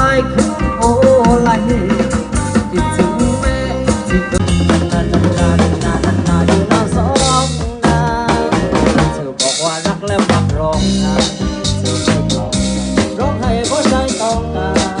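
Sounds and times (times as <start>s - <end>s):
band music: 0.0s - 15.0s
bass drum and snare beating: 0.0s - 15.0s.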